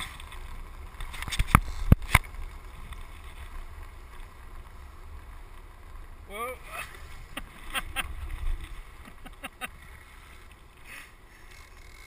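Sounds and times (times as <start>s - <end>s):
low rolling rumble: 0.0s - 11.5s.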